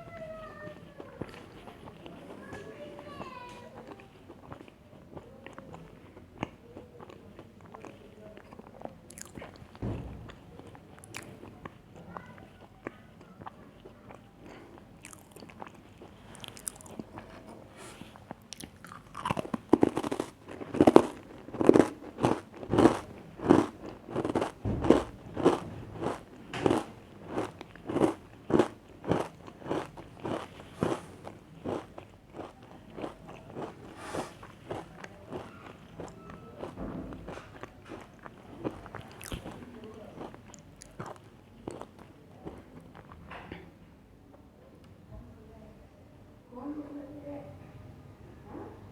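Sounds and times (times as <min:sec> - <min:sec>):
crunchy cookie chewing: 0:00.0 - 0:43.3.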